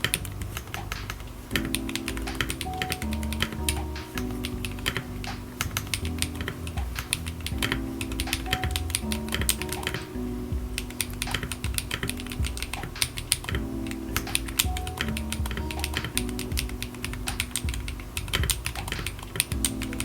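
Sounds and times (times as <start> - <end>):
keyboard typing clicks: 0.0 - 10.2, 10.8 - 20.0
background music with low notes: 0.0 - 20.0.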